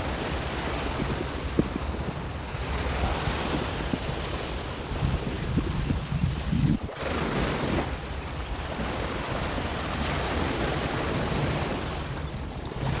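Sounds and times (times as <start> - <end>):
ocean surf on shore: 0.0 - 13.0
wind buffeting microphone: 0.0 - 13.0.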